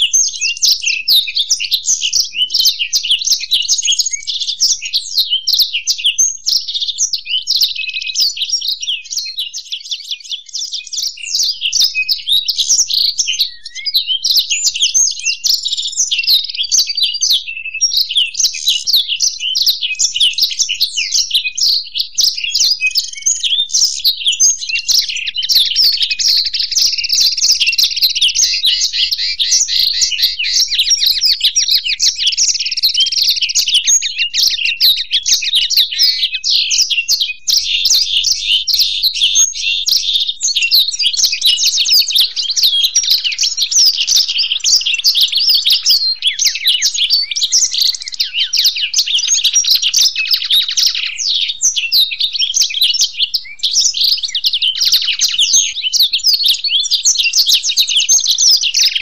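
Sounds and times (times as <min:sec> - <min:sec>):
birds twittering and chirping: 0:00.0 - 0:59.0.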